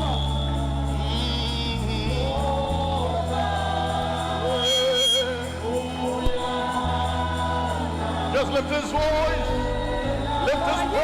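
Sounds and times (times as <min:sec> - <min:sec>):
congregation and choir singing: 0:00.0 - 0:11.0
musical accompaniment: 0:00.0 - 0:11.0.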